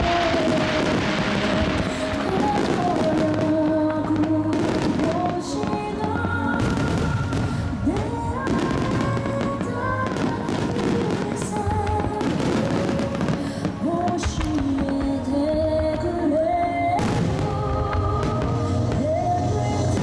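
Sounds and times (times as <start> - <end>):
fireworks bursting and crackling: 0.0 - 20.0
melodic music over loudspeakers: 0.0 - 20.0.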